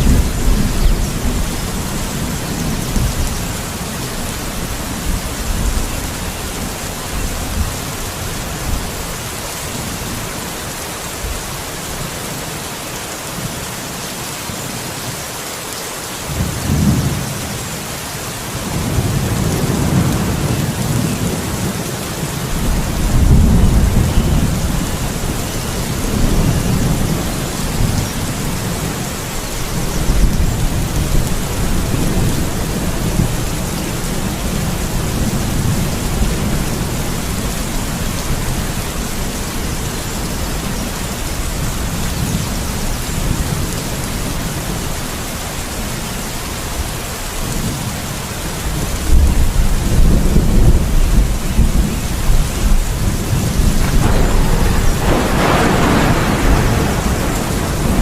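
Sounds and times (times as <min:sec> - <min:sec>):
low thunder rumbling: 0:00.0 - 0:10.6, 0:18.5 - 0:46.0, 0:46.8 - 0:58.0
rain hiss: 0:00.0 - 0:58.0.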